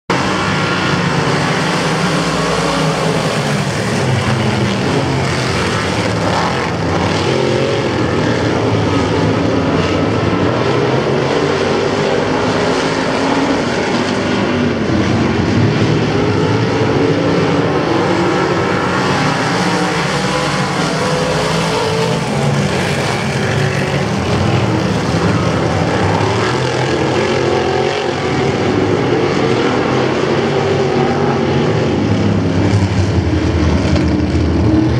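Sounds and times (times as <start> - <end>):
racing car engines revving: 0.1 - 34.9.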